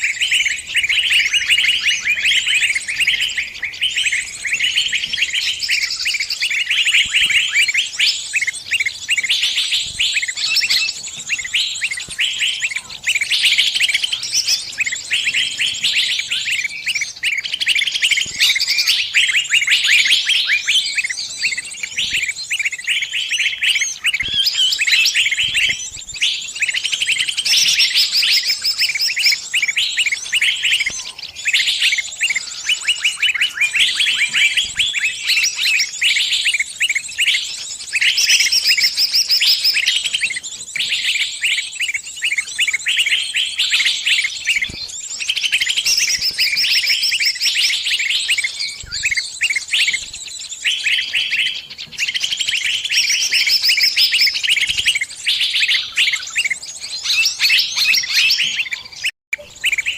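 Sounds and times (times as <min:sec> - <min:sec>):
small bird chattering chirps: 0:00.0 - 0:59.9.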